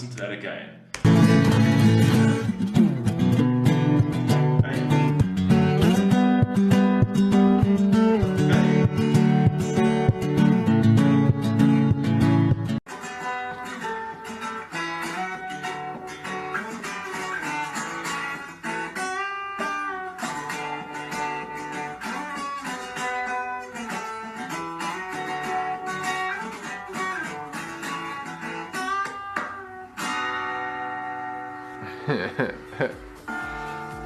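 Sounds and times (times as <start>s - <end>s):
palm slapping guitar body: 0.9s - 30.6s
fingerstyle acoustic guitar: 1.0s - 34.0s.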